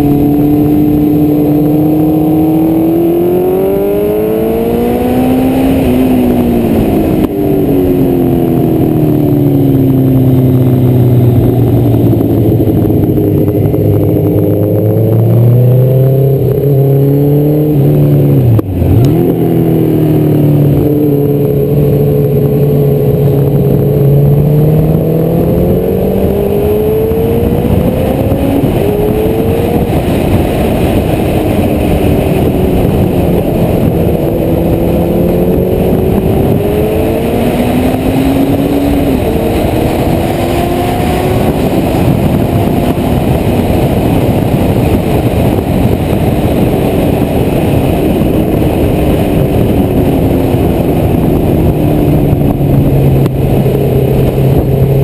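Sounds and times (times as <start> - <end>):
motorcycle engine revving: 0.0 - 55.0
wind noise: 0.0 - 55.0.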